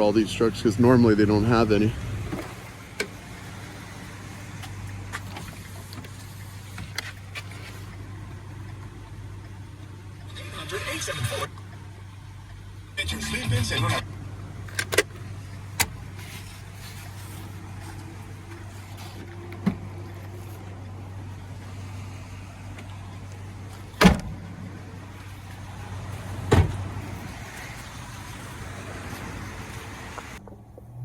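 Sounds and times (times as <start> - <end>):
truck engine idling: 0.0 - 30.6.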